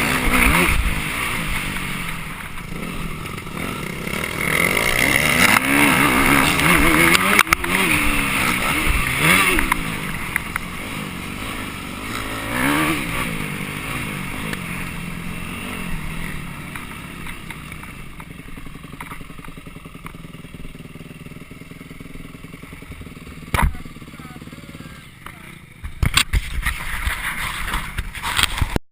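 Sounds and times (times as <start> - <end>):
motorcycle engine revving: 0.0 - 28.8.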